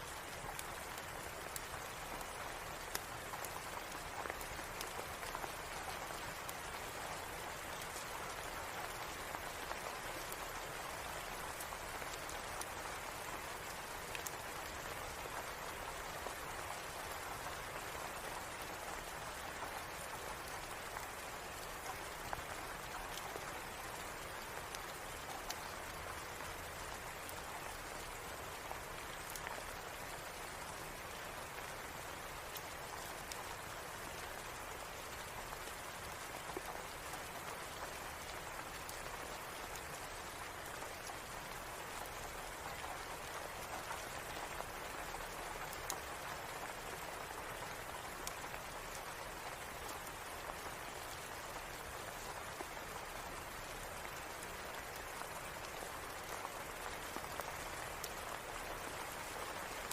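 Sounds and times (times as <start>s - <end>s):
faint rain ticks: 0.0s - 59.9s
steady rain hiss: 0.0s - 59.9s.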